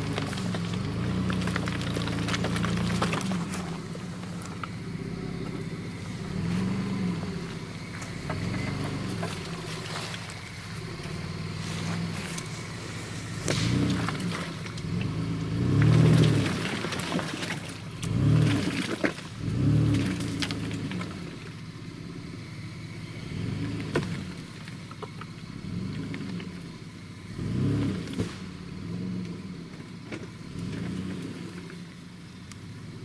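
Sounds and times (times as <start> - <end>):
engine revving: 0.0 - 31.9.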